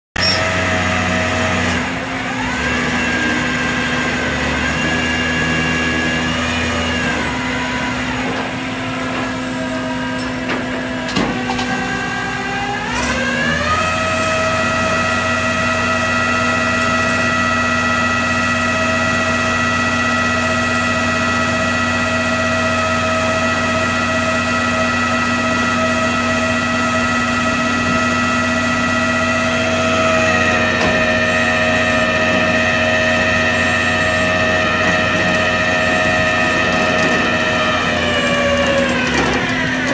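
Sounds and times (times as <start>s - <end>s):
hydraulic winch whining: 0.2s - 39.9s
truck engine running: 0.2s - 39.9s.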